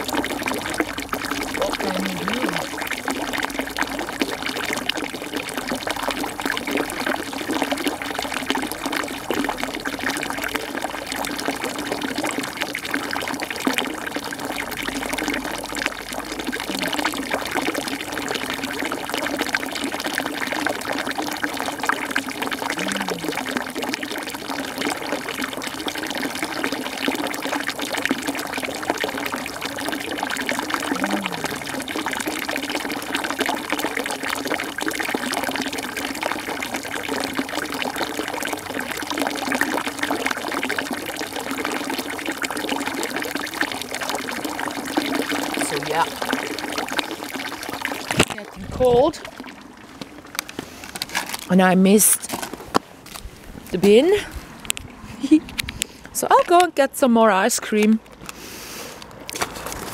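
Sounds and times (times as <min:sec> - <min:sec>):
running water: 0:00.0 - 0:58.2.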